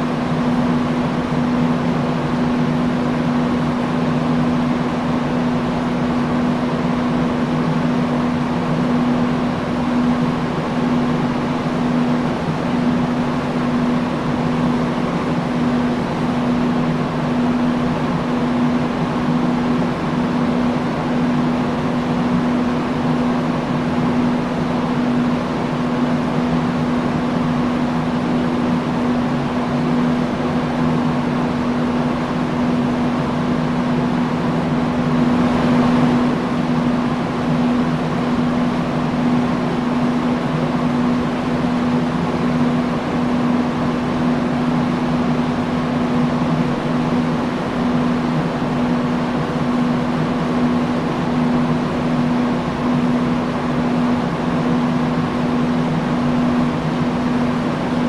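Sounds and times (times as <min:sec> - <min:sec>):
fan motor hum: 0:00.0 - 0:58.0
industrial fan whooshing: 0:00.0 - 0:58.0.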